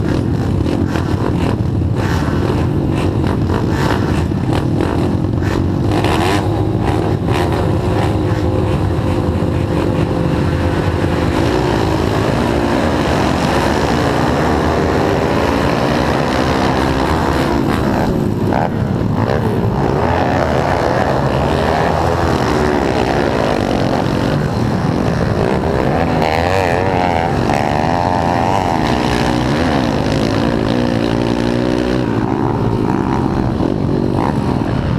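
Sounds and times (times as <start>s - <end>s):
pit bike engines revving: 0.0s - 34.9s.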